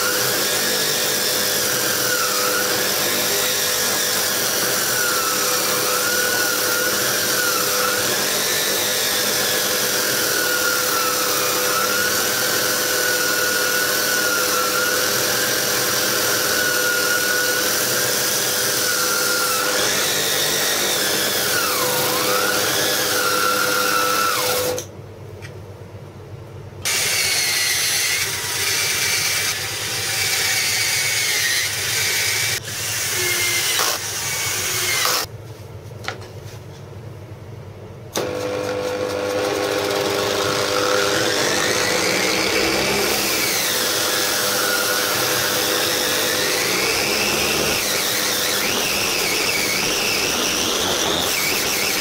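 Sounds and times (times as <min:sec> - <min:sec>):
cordless drill bursts: 0:00.0 - 0:24.8, 0:26.9 - 0:35.3, 0:38.2 - 0:52.0
angle grinder whining: 0:00.0 - 0:24.9, 0:26.8 - 0:35.3, 0:38.2 - 0:52.0.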